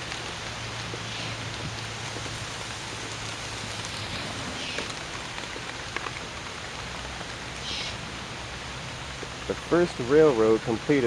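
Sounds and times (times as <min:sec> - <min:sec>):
falling water hiss: 0:00.0 - 0:11.0.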